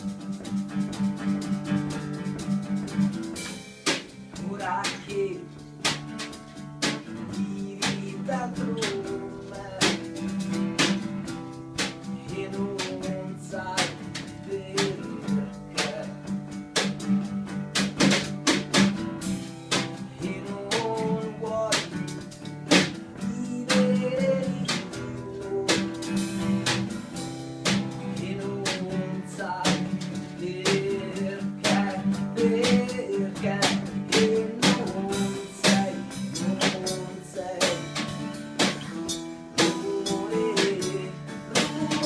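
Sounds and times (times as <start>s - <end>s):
band playing a song: 0.0s - 42.0s
strummed acoustic guitar: 0.0s - 42.0s.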